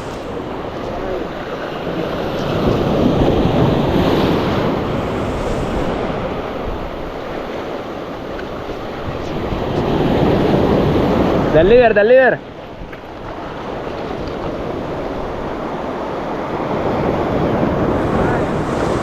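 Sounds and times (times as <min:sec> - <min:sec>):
wind buffeting microphone: 0:00.0 - 0:11.8, 0:12.6 - 0:19.0
waves breaking on shore: 0:00.0 - 0:19.0.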